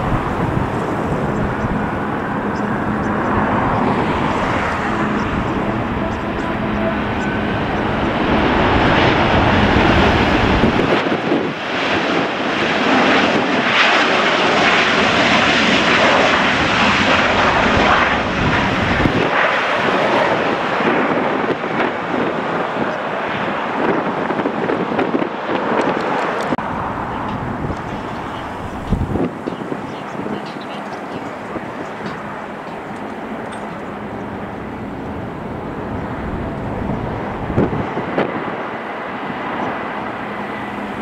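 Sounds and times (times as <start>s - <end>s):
jet engines roaring: 0.0s - 41.0s
wind buffeting microphone: 0.0s - 41.0s.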